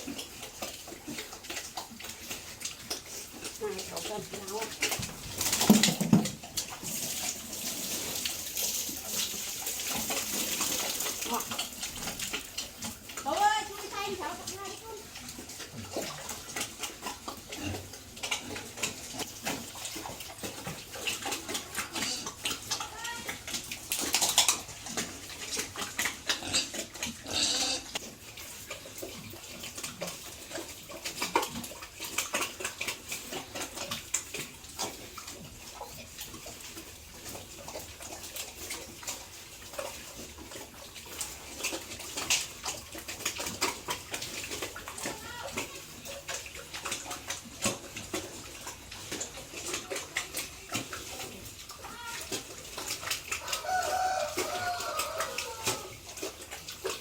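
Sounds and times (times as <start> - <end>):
pigs chomping and slurping: 0.0 - 57.0.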